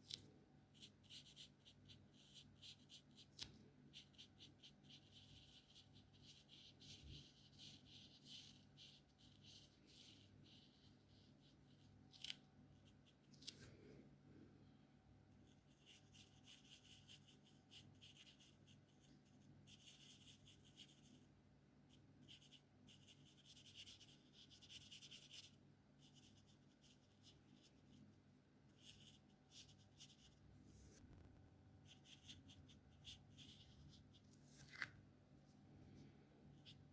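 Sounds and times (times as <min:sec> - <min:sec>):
marker rubbing across paper: 0:00.7 - 0:13.4, 0:15.4 - 0:21.3, 0:21.9 - 0:28.0, 0:28.8 - 0:34.6.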